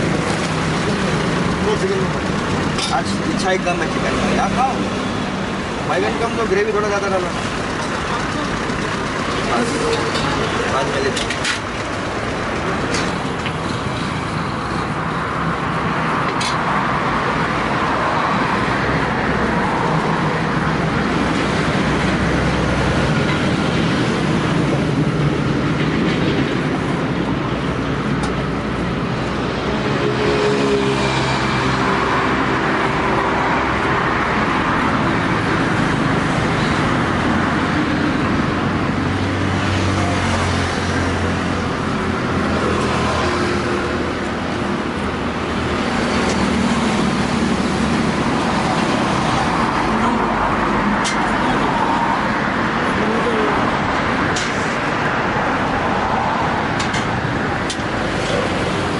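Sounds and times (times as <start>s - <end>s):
road traffic passing: 0.0s - 58.9s.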